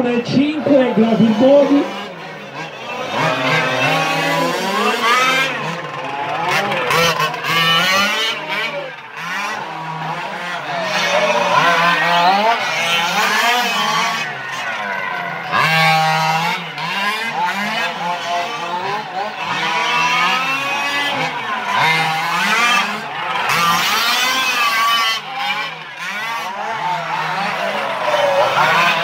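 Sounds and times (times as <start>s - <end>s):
model car engines revving: 0.0s - 29.0s.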